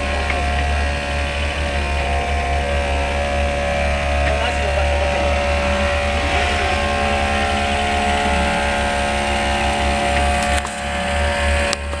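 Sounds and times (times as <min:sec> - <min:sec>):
small truck engine running: 0:00.0 - 0:12.0.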